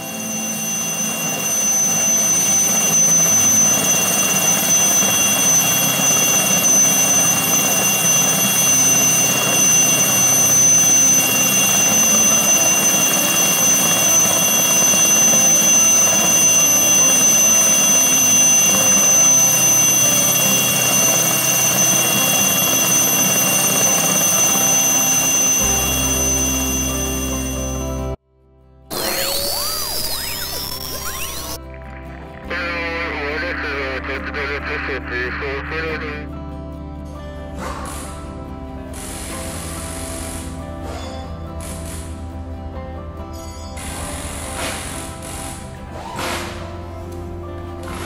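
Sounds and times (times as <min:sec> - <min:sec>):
helicopter engine and rotor noise: 0:00.0 - 0:28.2, 0:28.9 - 0:48.0
turbine whine: 0:00.0 - 0:28.2, 0:28.9 - 0:36.2, 0:38.1 - 0:41.8.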